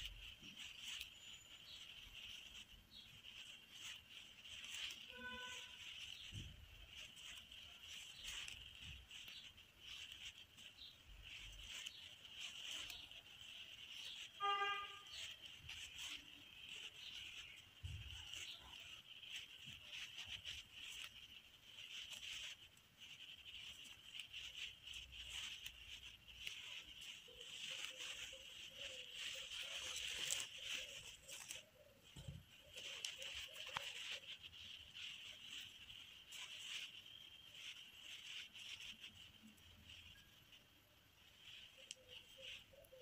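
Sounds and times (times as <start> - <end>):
high-pitched background hiss: 0.0 - 43.0.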